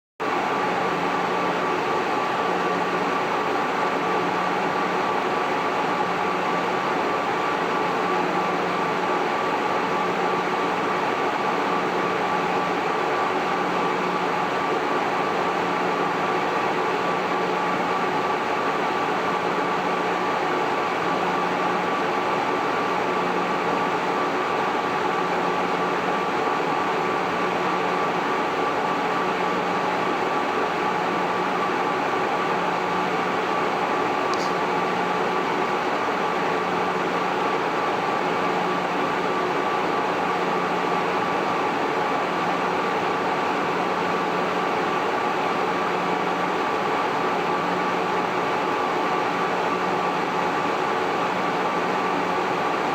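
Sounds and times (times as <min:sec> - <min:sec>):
cooling fans whooshing hum: 0:00.2 - 0:52.9.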